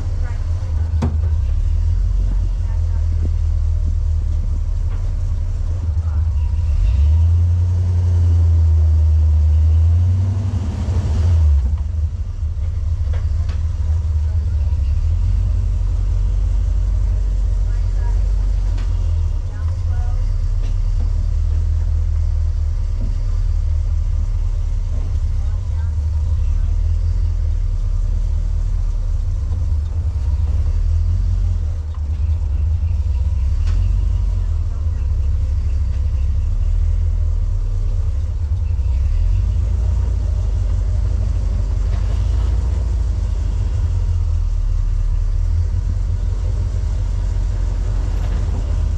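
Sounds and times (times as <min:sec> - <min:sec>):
vehicle engine rumbling: 0:00.0 - 0:48.9.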